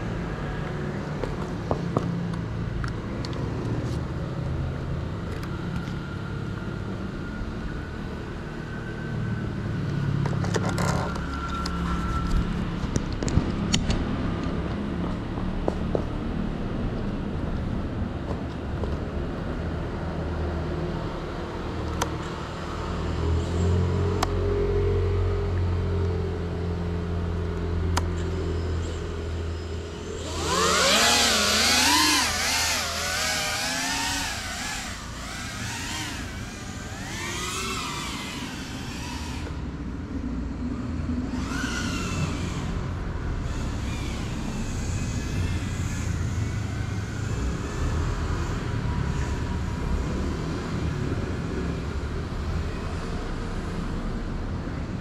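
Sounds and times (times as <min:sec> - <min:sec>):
drone propellers buzzing whine: 0:00.0 - 0:55.0.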